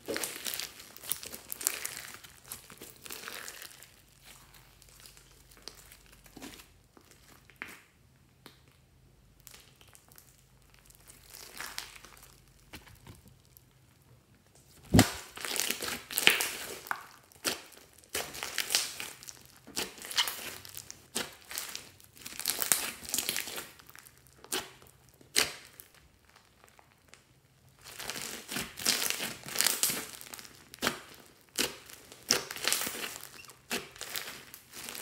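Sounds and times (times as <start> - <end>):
slime squishing and crackling: 0.0 - 8.8, 9.4 - 35.0.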